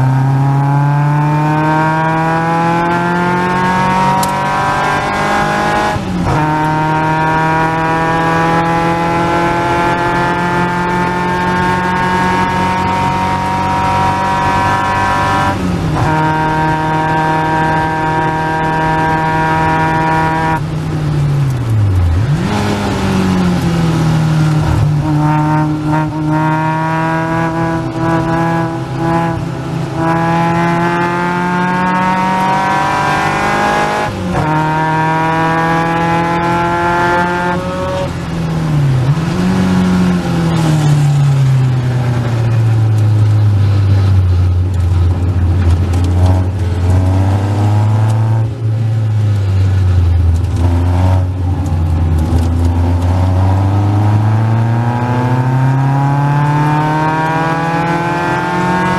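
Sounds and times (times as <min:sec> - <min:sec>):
race car engine revving: 0:00.0 - 0:58.9.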